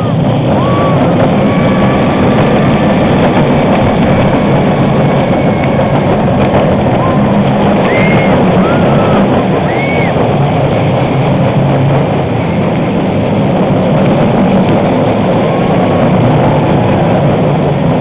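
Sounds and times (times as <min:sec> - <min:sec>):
roller coaster rumbling on track: 0:00.0 - 0:18.0.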